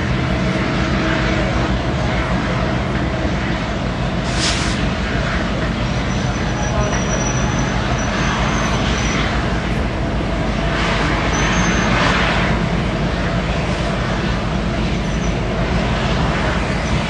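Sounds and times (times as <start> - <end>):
diesel locomotives rumbling: 0.0 - 17.0
hissing rush: 0.1 - 17.0.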